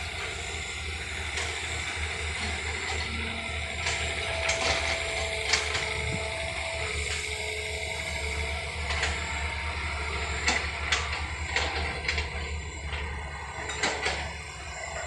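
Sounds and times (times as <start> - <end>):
diesel engine drone: 0.0 - 15.0
excavator clanks: 0.0 - 15.0.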